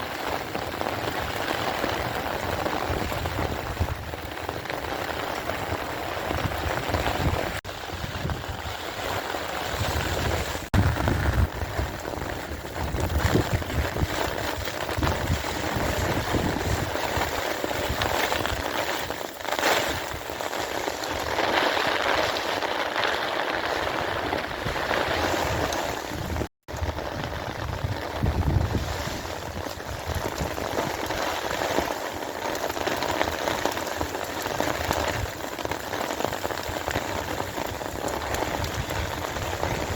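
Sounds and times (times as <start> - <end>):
rain splashing on surfaces: 0.0 - 39.9.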